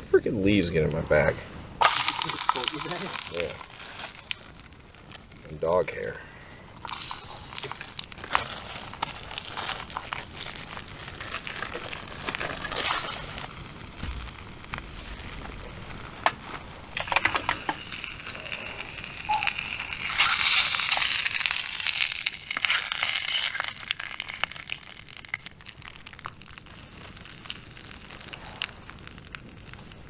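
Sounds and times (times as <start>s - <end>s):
campfire crackling: 0.0s - 30.0s
dumplings sizzling in oil: 1.7s - 5.8s, 6.7s - 30.0s.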